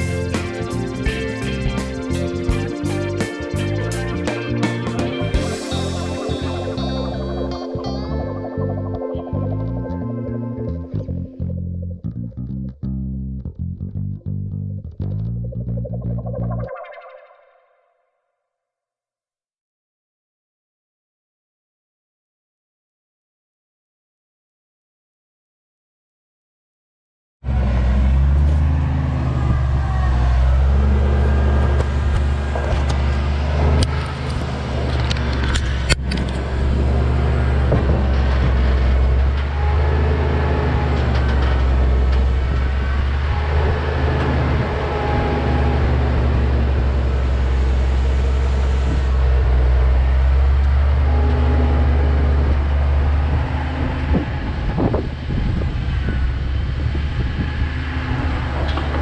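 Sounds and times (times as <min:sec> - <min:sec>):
vehicle engine low rumble: 0:00.0 - 0:16.7, 0:27.4 - 0:59.0.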